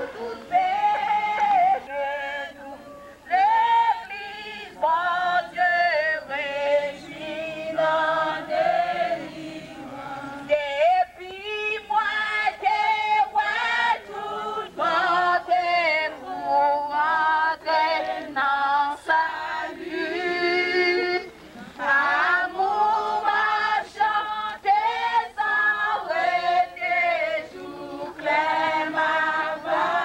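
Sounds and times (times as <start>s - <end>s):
group singing a hymn: 0.0s - 30.0s.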